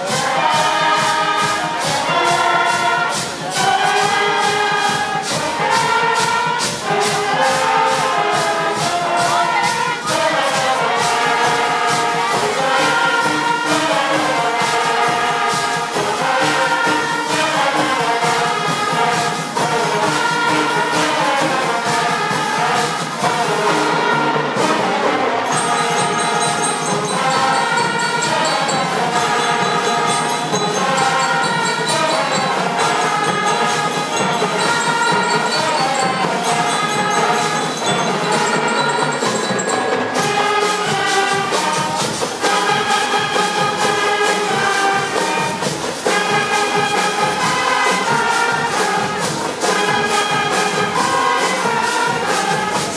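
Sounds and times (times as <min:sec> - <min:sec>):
band music with steady beat: 0:00.0 - 0:52.9.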